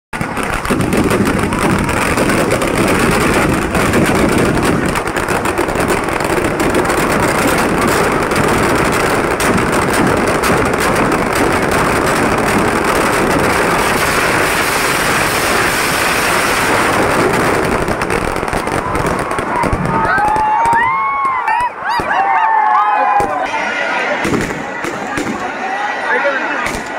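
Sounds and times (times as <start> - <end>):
fireworks crackling and exploding: 0.1 - 22.2, 23.1 - 25.6, 26.6 - 26.9.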